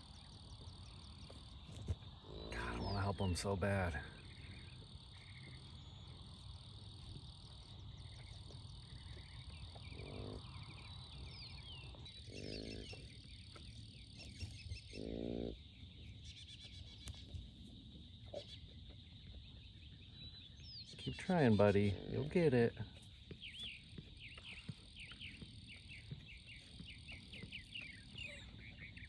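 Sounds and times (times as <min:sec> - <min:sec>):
birds chirping: 0:00.0 - 0:29.0
insect drone: 0:00.0 - 0:29.0.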